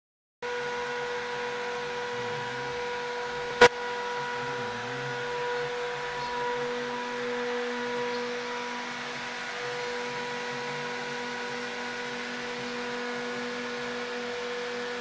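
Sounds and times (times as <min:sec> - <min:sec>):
spindle high whine: 0:00.5 - 0:15.0.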